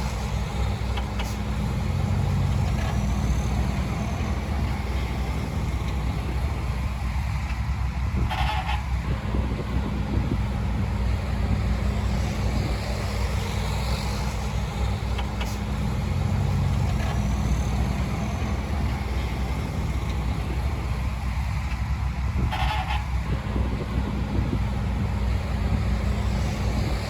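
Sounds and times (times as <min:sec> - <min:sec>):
heavy diesel engine rumbling: 0:00.0 - 0:27.0.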